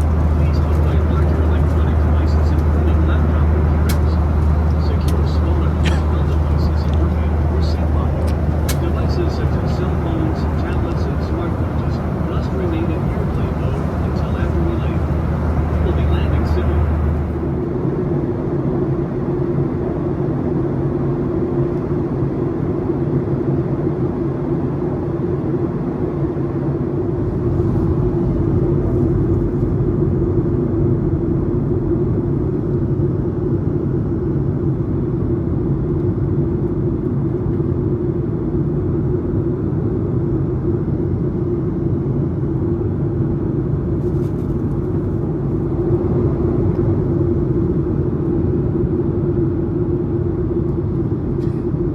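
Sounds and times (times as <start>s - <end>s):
jet engine rumble in cabin: 0.0s - 51.9s.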